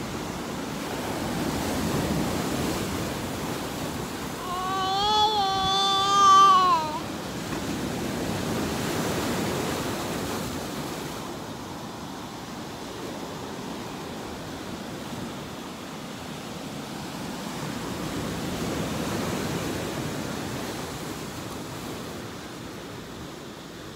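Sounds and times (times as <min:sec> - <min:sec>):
sea waves washing onto shore: 0:00.0 - 0:23.9.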